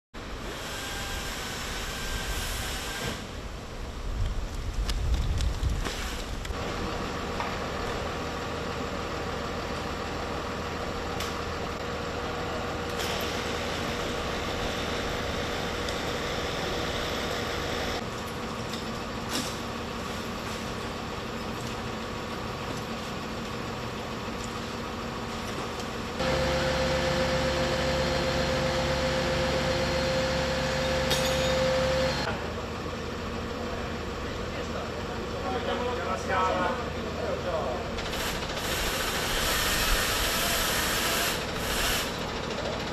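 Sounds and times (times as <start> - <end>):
city background noise: 0.2 - 42.9
fire truck engine humming: 6.3 - 42.9.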